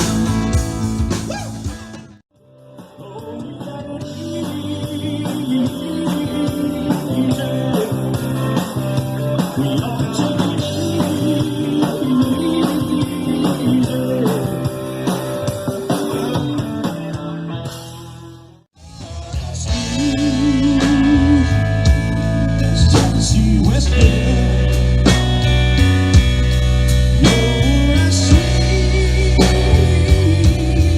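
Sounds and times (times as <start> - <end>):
drum kit beat: 0.0 - 18.2, 18.8 - 30.9
electric guitar: 0.0 - 30.9.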